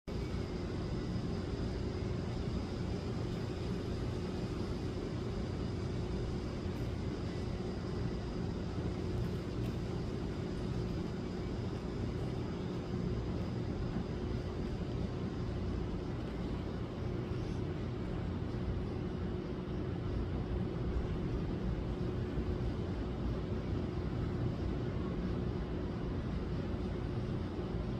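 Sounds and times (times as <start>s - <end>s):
faint constant hum: 0.0s - 27.9s
steady low rumble: 0.1s - 27.9s.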